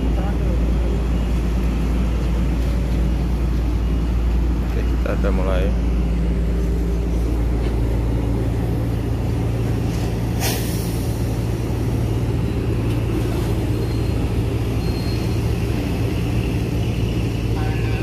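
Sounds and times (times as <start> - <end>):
ship engine droning: 0.0 - 18.0.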